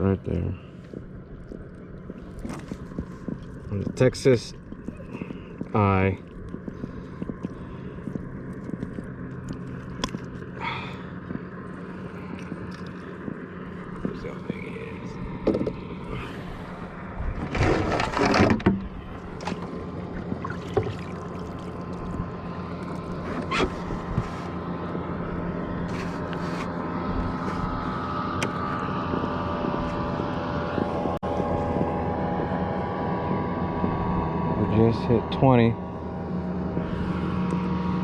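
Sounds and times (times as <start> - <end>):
distant motorboat engine hum: 0.0 - 38.0.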